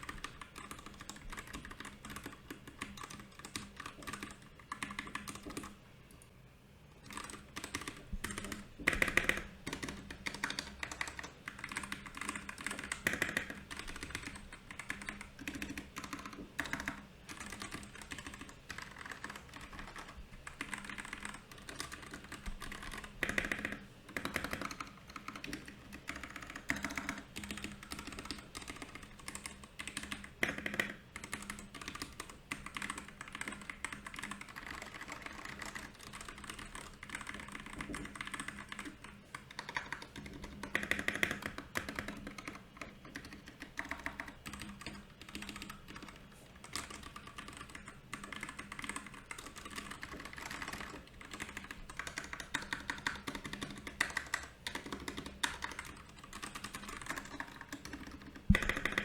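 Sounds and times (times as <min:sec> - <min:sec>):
fast mechanical keyboard typing: 0:00.0 - 0:05.8, 0:07.0 - 0:59.0.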